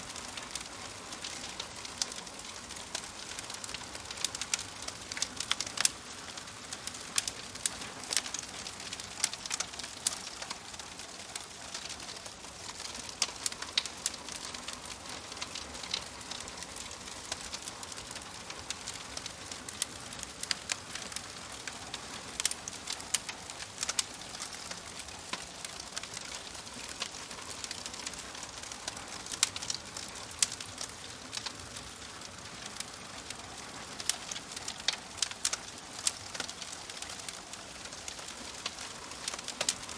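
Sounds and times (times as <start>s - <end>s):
soft hiss of fire: 0.0s - 39.9s
wood fire popping and snapping: 0.0s - 39.9s.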